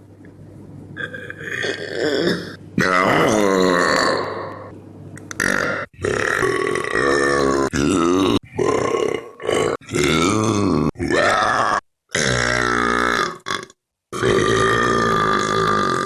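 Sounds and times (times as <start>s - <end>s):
men belching loudly: 1.0s - 4.5s, 5.4s - 16.0s.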